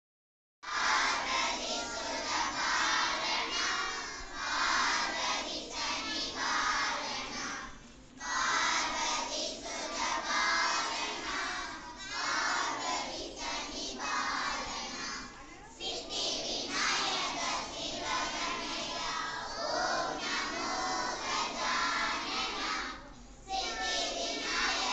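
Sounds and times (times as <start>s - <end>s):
children singing in unison: 0.6s - 24.9s.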